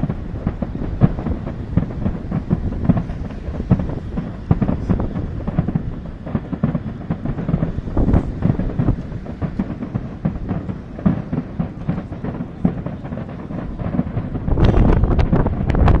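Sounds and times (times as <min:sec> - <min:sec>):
continuous low rumble: 0:00.0 - 0:16.0
fireworks bursting: 0:00.0 - 0:16.0.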